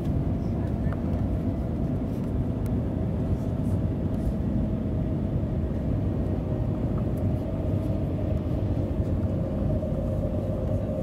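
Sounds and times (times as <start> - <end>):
train cabin low rumble: 0.0 - 11.0.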